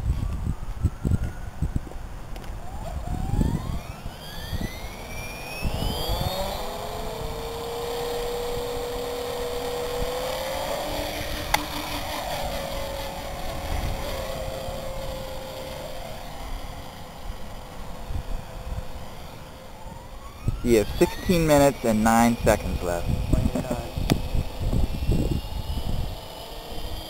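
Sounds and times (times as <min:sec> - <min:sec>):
helicopter motor whine and rotor hum: 0:00.0 - 0:27.0.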